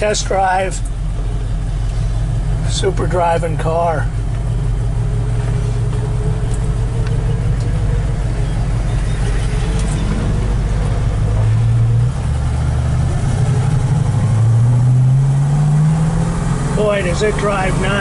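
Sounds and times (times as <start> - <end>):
car engine accelerating from cabin: 0.0 - 18.0.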